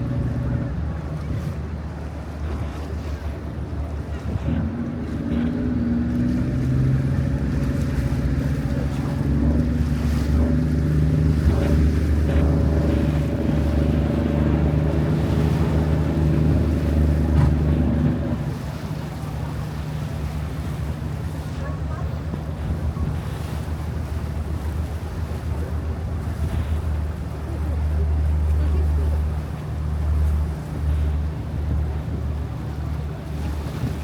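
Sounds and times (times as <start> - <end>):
boat engine humming: 0.0 - 34.0
rushing water: 0.0 - 34.0
wind: 0.0 - 34.0.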